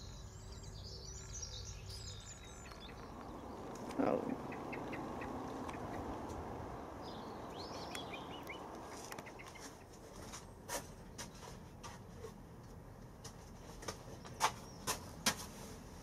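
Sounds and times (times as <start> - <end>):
bird chirping: 0.0 - 11.8, 14.0 - 15.3.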